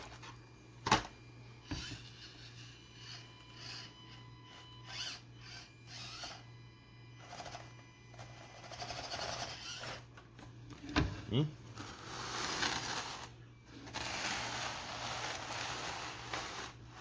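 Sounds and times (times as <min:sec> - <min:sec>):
small electric motor whirring: 0:01.2 - 0:10.1, 0:11.8 - 0:17.0.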